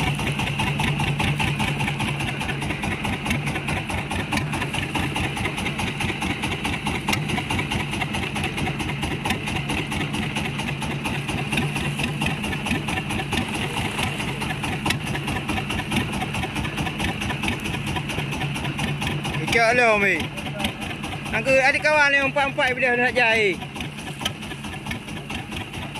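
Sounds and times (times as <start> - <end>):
boat engine idling: 0.0 - 25.9.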